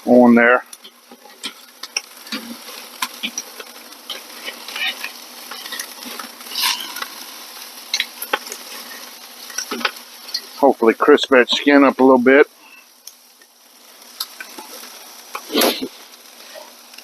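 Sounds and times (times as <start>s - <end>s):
chicken sizzling on a grill: 0.0s - 17.0s
fat crackling and popping: 0.0s - 17.0s.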